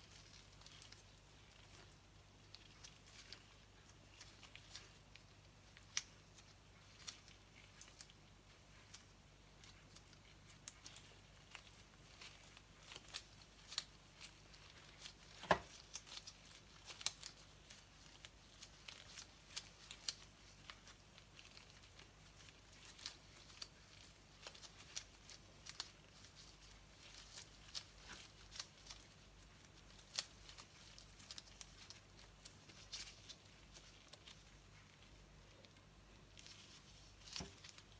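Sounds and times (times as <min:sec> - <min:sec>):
gloved hands pinching dough: 0:00.0 - 0:37.9.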